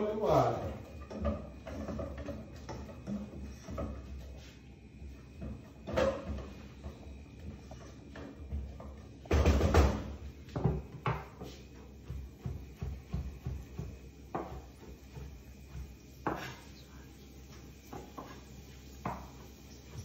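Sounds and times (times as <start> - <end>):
kitchen clatter: 0.0 - 20.0.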